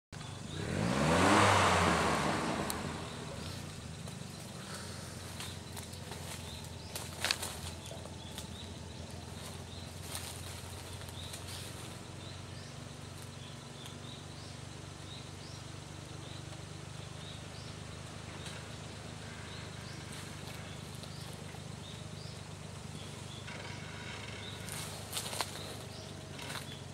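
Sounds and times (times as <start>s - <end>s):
car engine running at low revs: 0.1s - 26.9s.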